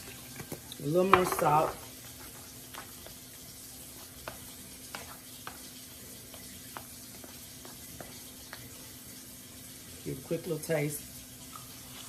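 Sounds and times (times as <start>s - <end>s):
sauce simmering and sizzling: 0.0s - 12.0s.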